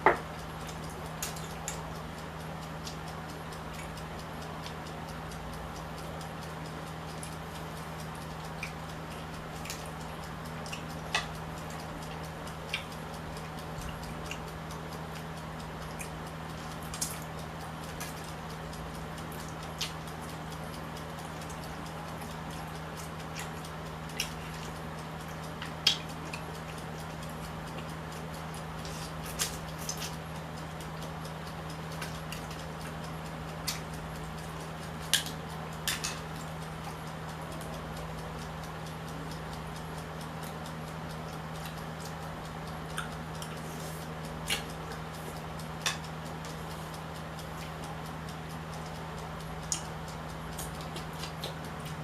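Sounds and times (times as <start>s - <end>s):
faint clock ticking: 0.0s - 52.0s
steady low hum: 0.0s - 52.0s
eating clicks and smacks: 0.1s - 52.0s.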